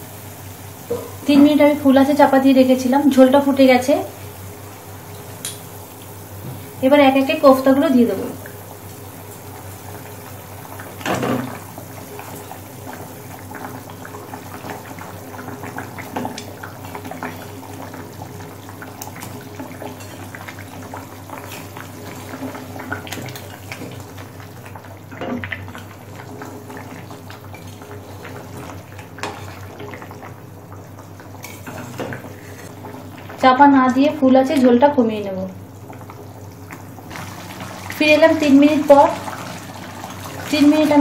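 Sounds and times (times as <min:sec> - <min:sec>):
gravy bubbling at a boil: 0:00.0 - 0:41.0.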